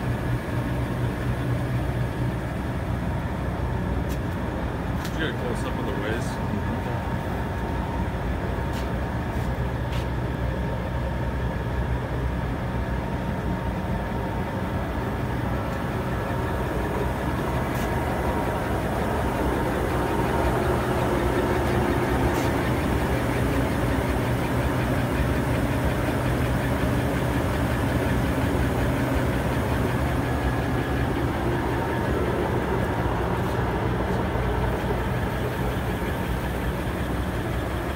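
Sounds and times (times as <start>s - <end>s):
lathe motor and gearing hum: 0.0s - 37.9s.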